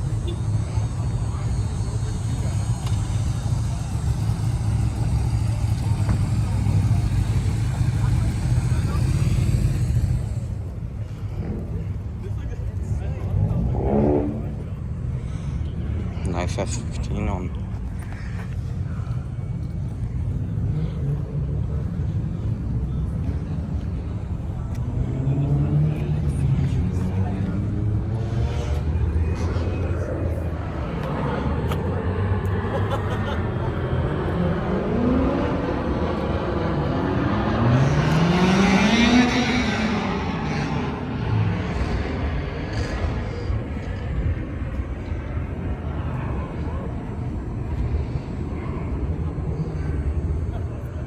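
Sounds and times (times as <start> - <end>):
car engine rumbling: 0.0 - 51.0
road noise: 0.0 - 51.0.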